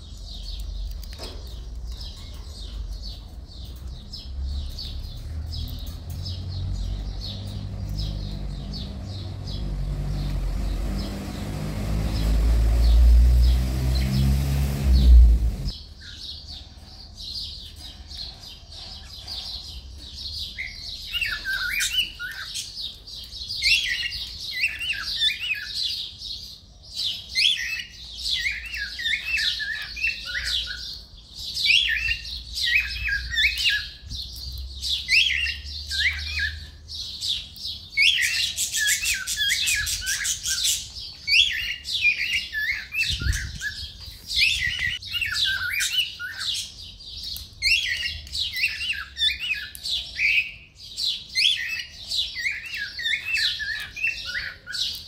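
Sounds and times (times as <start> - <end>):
cockatiels chirping and calling: 0.0 - 6.2, 15.3 - 34.2, 34.9 - 55.0.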